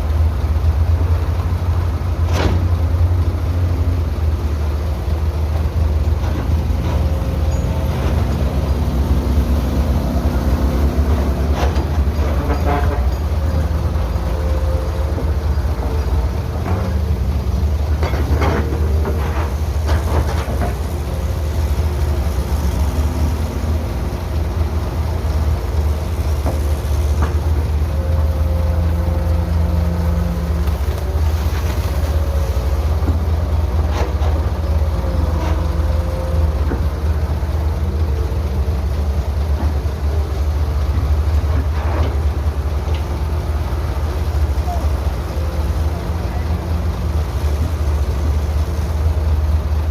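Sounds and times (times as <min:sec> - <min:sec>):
excavator diesel engine rumbling: 0:00.0 - 0:49.9.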